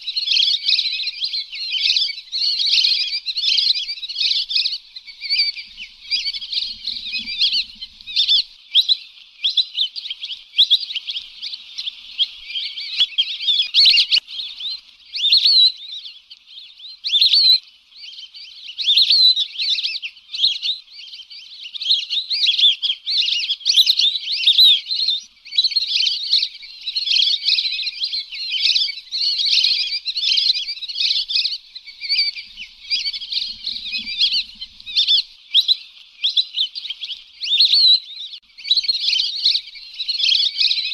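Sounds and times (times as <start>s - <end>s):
ducks whistling chirps: 0.0s - 40.9s.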